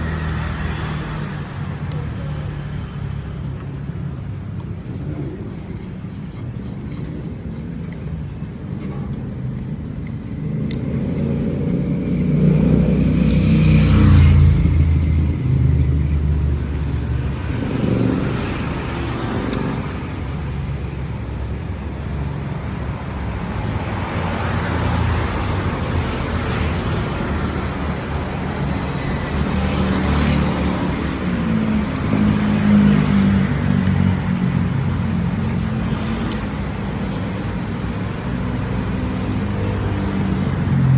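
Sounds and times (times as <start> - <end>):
passing vehicles rumbling: 0.0 - 40.9.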